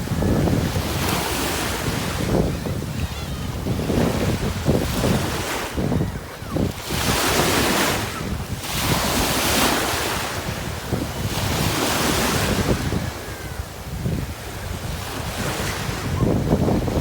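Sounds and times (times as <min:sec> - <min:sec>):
waves breaking on a beach: 0:00.0 - 0:17.0
wind buffeting microphone: 0:00.0 - 0:17.0.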